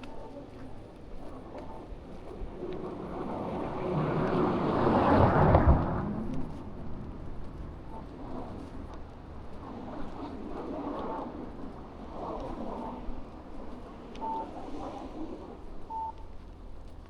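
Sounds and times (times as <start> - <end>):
road vehicle passing: 0.7 - 16.6.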